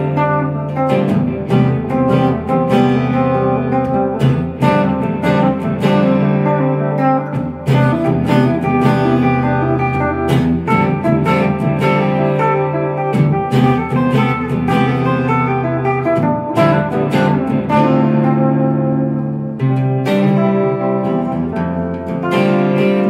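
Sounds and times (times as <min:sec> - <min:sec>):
electric guitar duet: 0:00.0 - 0:23.0.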